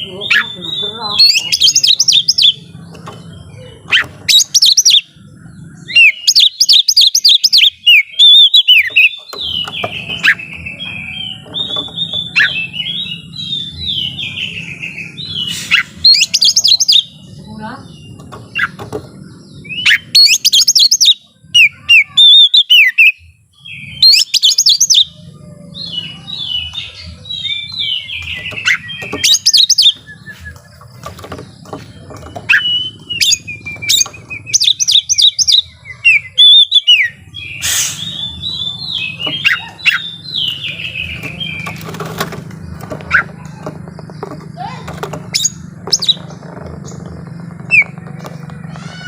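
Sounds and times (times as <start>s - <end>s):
bird whistles and trills: 0.0s - 5.2s, 5.8s - 17.2s, 18.0s - 47.0s, 47.6s - 48.1s.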